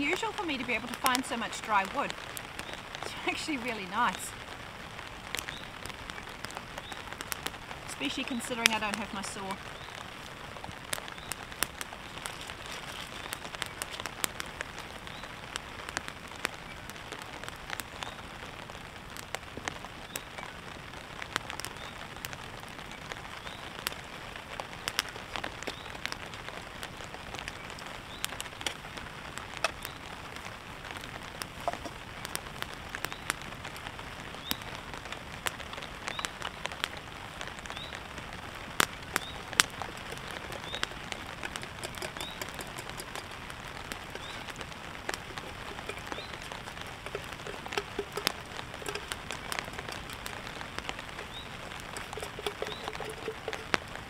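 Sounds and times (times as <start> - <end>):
rain on a tarp: 0.0 - 54.0.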